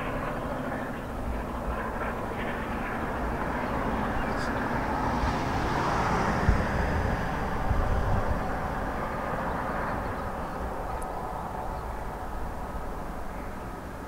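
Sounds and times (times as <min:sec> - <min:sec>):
distant locomotive engine drone: 0:00.0 - 0:14.0.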